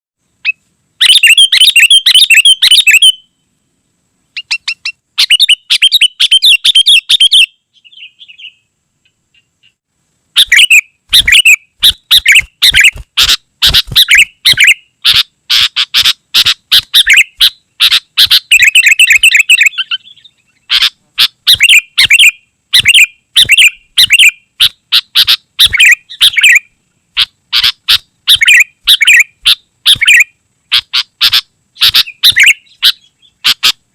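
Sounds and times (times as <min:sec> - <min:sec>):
bird chirping rapidly: 0:00.4 - 0:03.6, 0:04.2 - 0:09.8, 0:10.4 - 0:33.9.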